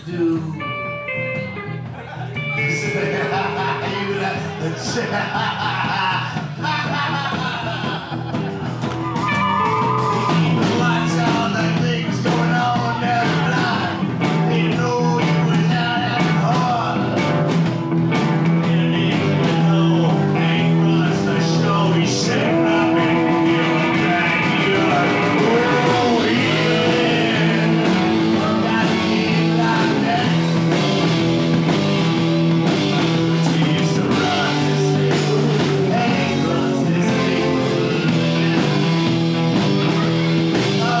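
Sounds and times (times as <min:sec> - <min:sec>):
drums with cymbals: 0:01.4 - 0:41.0
people singing: 0:02.6 - 0:08.2, 0:10.2 - 0:17.2, 0:18.6 - 0:31.2, 0:32.6 - 0:39.1, 0:39.8 - 0:41.0.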